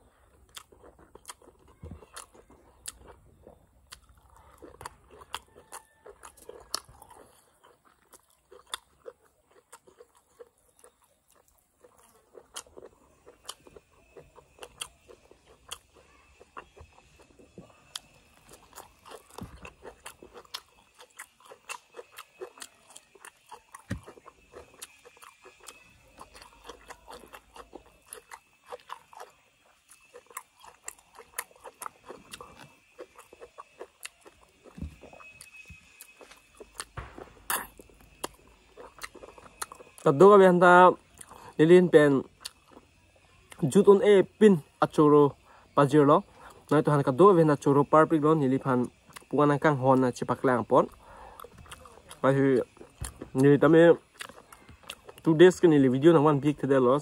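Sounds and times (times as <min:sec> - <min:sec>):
chewing and wet mouth smacking: 0:00.1 - 0:41.6, 0:42.2 - 0:44.0, 0:44.9 - 0:56.4.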